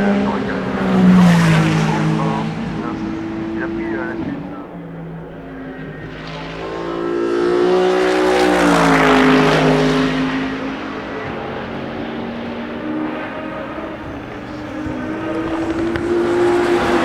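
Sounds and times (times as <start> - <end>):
racing car engine passing: 0.0 - 17.0.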